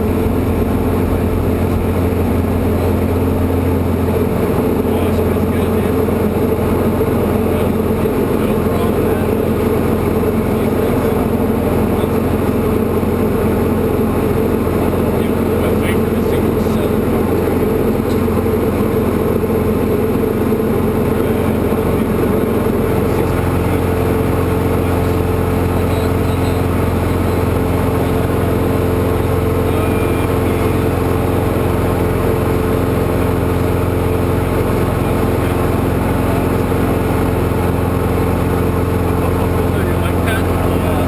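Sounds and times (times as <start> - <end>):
airplane engine and propeller: 0.0 - 41.0.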